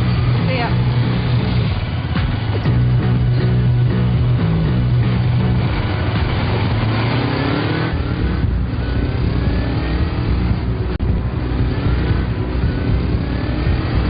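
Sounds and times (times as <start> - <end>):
vehicle engine accelerating hard: 0.0 - 14.0.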